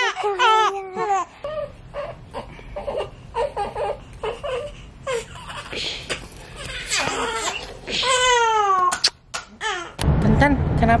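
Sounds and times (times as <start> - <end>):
baby crying: 0.0 - 6.0, 6.6 - 10.0.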